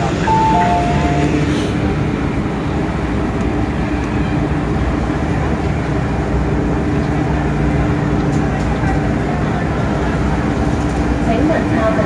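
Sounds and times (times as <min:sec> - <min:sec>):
train humming at platform: 0:00.0 - 0:12.0.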